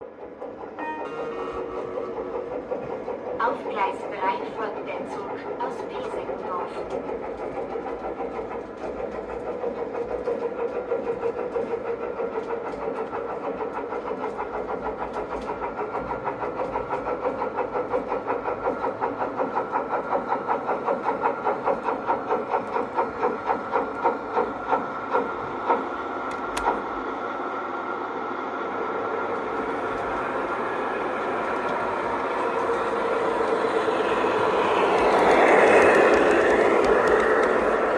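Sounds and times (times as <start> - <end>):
model train running: 0.0 - 37.9.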